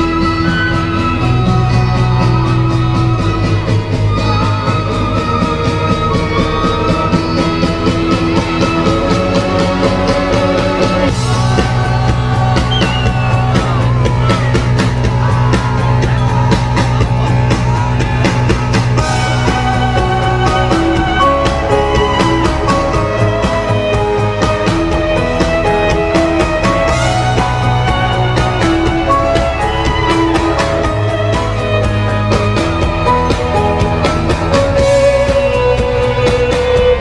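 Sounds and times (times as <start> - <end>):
pop-rock backing track: 0.0 - 37.0
violin melody with vibrato: 0.0 - 37.0.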